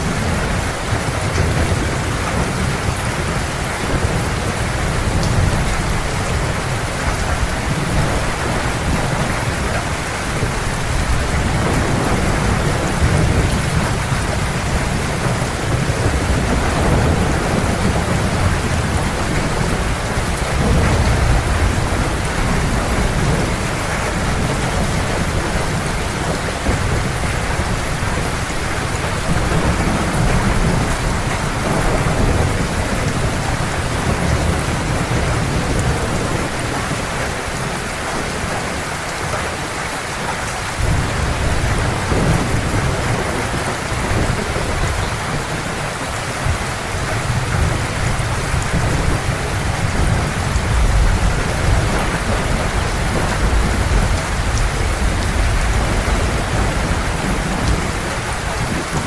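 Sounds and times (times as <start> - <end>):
low thunder rumbling: 0.0 - 39.0, 40.8 - 59.0
heavy rain falling: 0.0 - 59.0.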